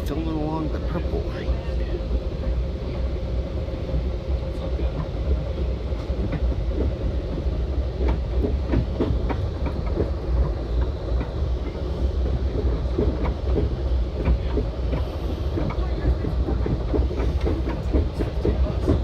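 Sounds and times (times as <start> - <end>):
train wheels rumbling on rails: 0.0 - 19.0
wheels clicking on track: 0.0 - 19.0.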